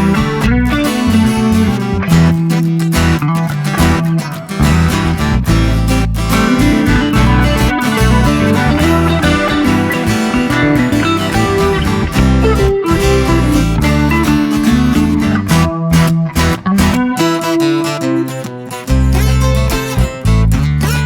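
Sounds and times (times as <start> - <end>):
bass line and beat: 0.0 - 17.6, 18.9 - 21.0
strummed guitar: 0.0 - 21.0.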